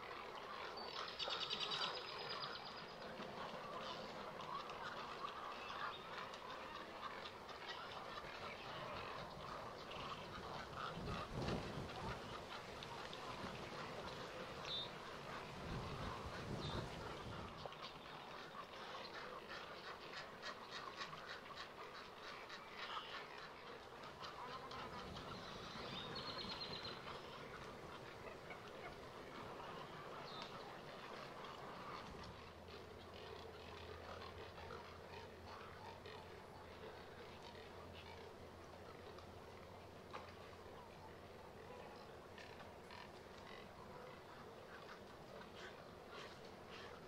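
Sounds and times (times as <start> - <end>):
waterbird colony calling: 0.0 - 47.0.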